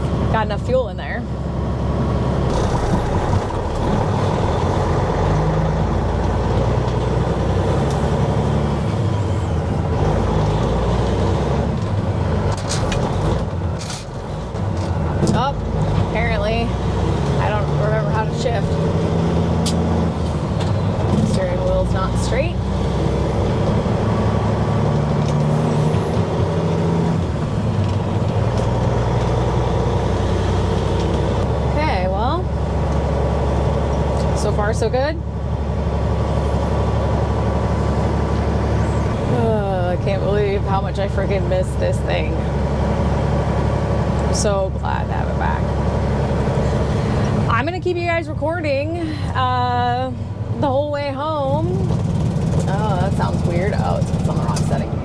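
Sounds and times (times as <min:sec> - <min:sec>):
truck diesel engine pulling: 0:00.0 - 0:55.0.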